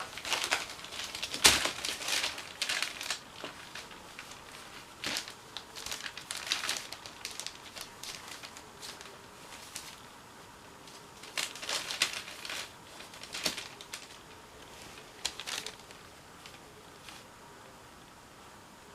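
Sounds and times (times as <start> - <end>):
rustling and crinkling: 0.0 - 17.4.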